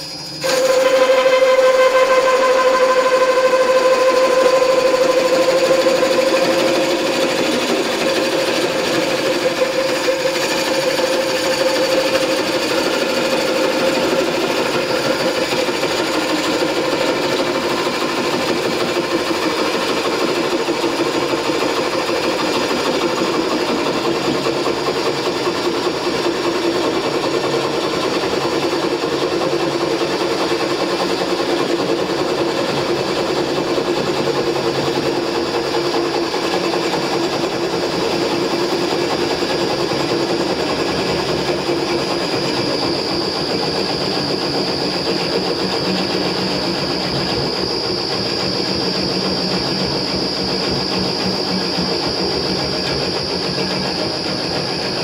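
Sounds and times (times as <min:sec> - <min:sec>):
electric drive running under load: 0:00.0 - 0:55.0
fast rattling chatter of cutting: 0:00.4 - 0:55.0.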